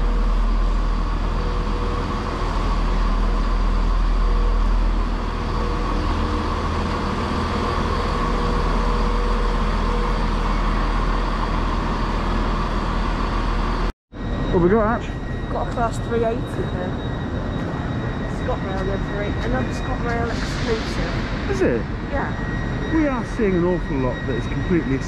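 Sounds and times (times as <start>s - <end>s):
diesel train engine idling: 0.0s - 25.0s.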